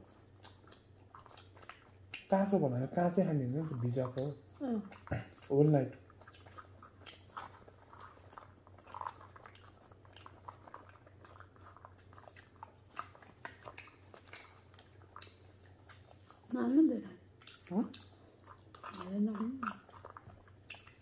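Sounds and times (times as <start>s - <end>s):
people chewing and crunching: 0.0s - 21.0s.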